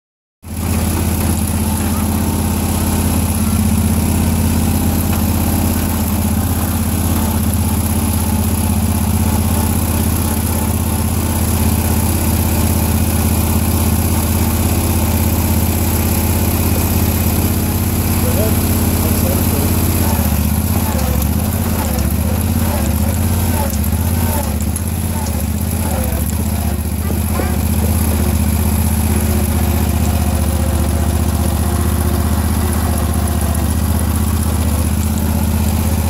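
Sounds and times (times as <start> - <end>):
lawn tractor engine running: 0.4 - 36.0.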